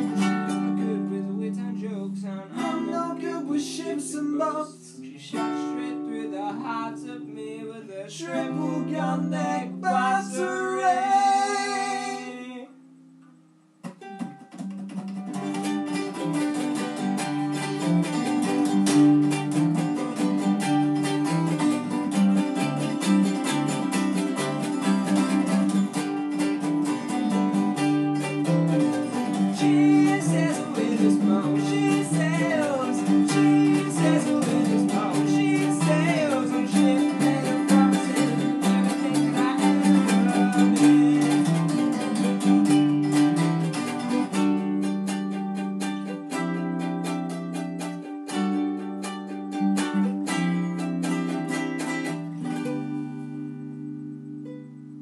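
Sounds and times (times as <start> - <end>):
strummed acoustic string instrument: 0.0 - 55.0.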